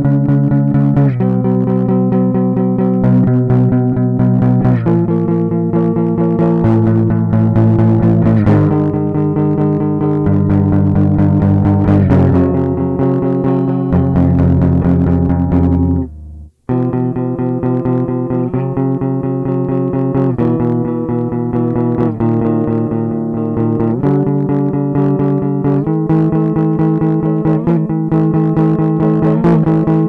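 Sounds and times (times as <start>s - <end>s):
guitar picking chords: 0.0s - 30.0s.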